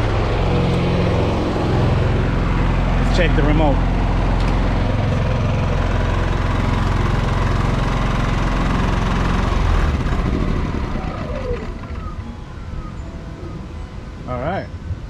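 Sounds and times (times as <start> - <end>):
generator running and winding down: 0.0 - 14.8.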